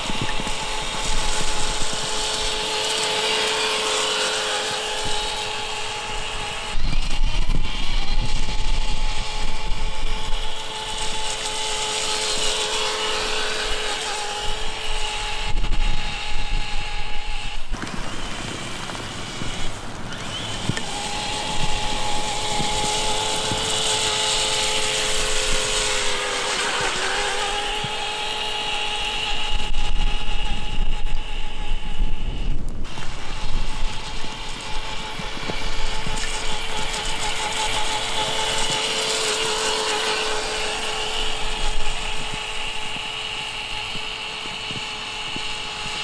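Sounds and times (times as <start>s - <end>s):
electric motor whine: 0.0s - 46.0s.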